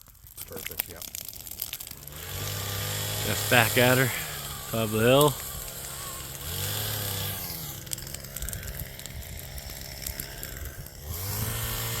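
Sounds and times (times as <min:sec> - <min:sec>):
wood snapping and crackling: 0:00.0 - 0:12.0
chainsaw revving: 0:01.8 - 0:12.0.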